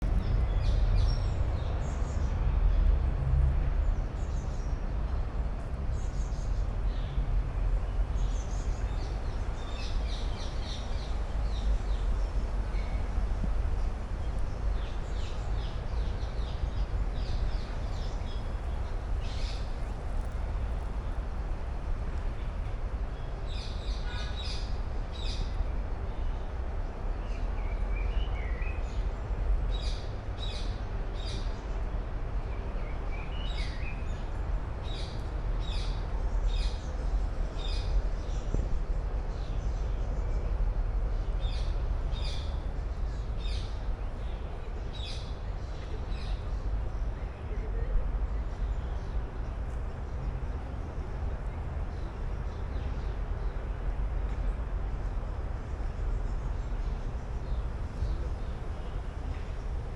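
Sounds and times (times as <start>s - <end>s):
songbirds chirping: 3.9s - 59.9s.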